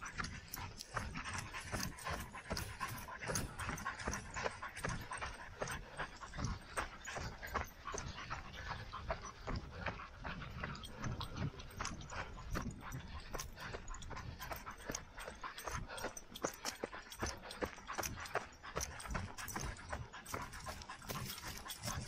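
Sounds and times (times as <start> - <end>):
panting breath: 0.0 - 22.0
running footsteps on a trail: 0.0 - 22.0.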